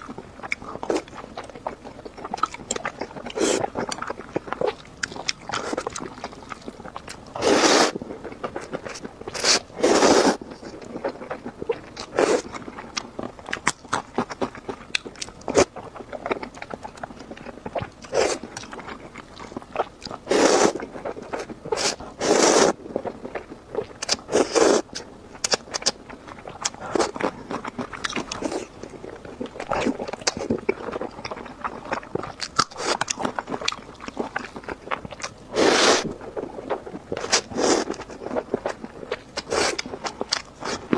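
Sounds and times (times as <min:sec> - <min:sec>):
chewing and biting: 0:00.0 - 0:40.9.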